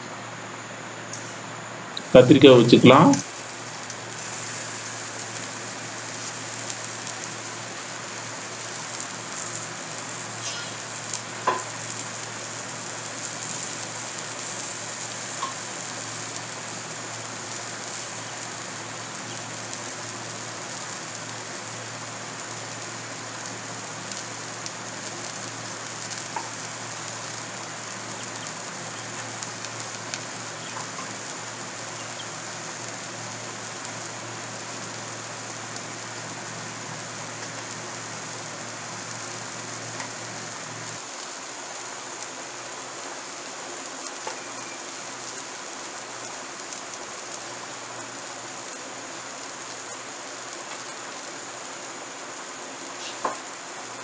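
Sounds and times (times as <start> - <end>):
vegetable slices frying in oil: 2.0 - 54.0.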